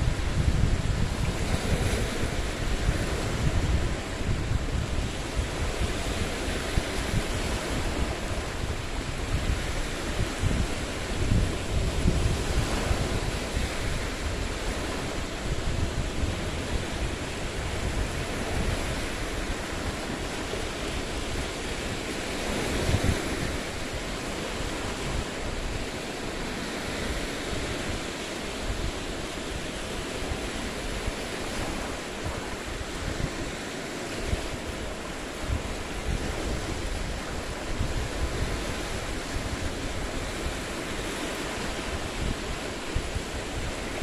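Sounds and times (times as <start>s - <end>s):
waves breaking against boulders: 0.0s - 44.0s
wind rumbling on microphone: 0.0s - 44.0s.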